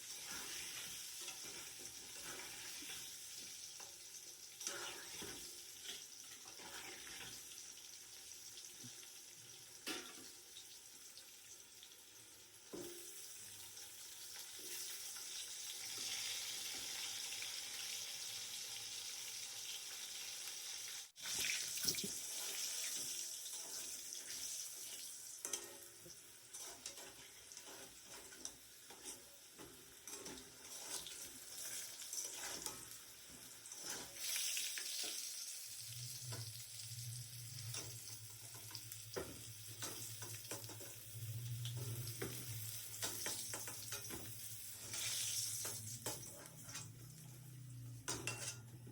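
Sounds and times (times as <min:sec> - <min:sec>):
meat sizzling in oil: 0:00.0 - 0:48.4.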